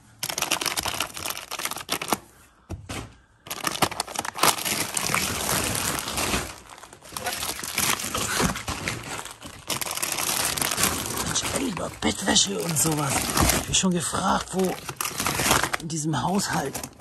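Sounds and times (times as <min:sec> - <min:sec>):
plastic bags crinkling and rustling: 0:00.2 - 0:02.3, 0:03.4 - 0:17.0.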